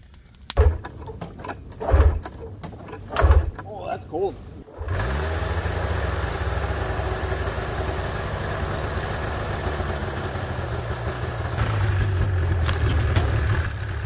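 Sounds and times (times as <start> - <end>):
snowmobile engine idling: 0.6 - 14.0.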